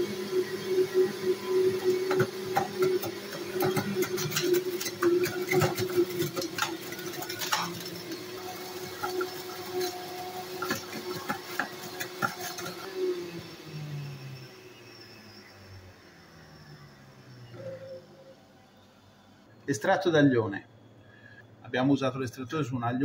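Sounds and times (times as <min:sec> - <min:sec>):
juicer motor humming: 0:00.0 - 0:21.4.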